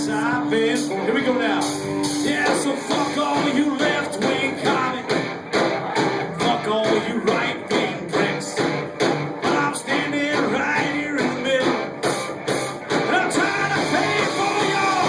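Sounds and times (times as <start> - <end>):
person singing: 0.0 - 12.1, 13.0 - 15.0
country-rock band music: 0.0 - 15.0
guitar: 0.0 - 15.0
steady drum beat: 0.0 - 15.0.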